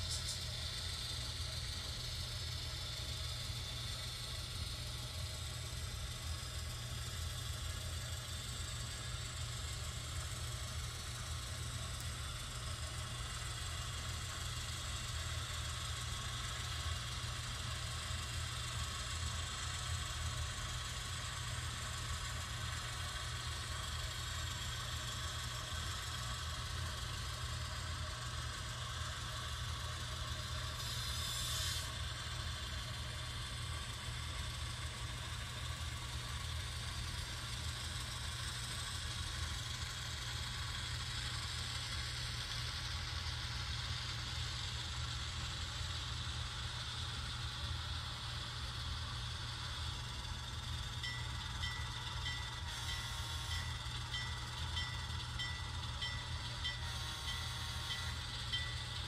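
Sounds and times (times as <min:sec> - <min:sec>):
diesel engine rumble from small speaker: 0:00.0 - 0:59.0.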